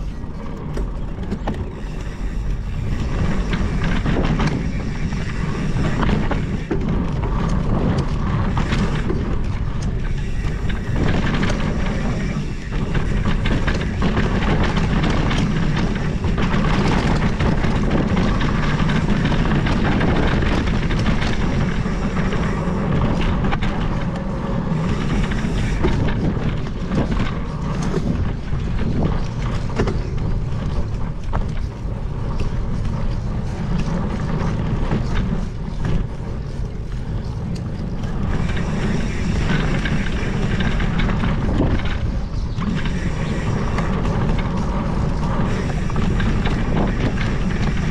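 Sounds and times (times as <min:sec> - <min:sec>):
bike clicks and knocks: 0:00.0 - 0:47.9
tyres rumbling over dirt: 0:00.0 - 0:47.9
wind rushing over microphone: 0:00.0 - 0:47.9.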